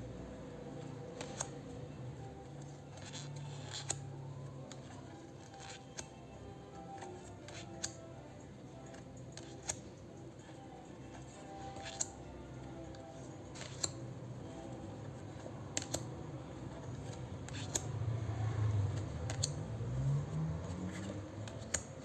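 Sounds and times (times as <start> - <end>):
cards and packaging clicking: 0.8 - 22.0.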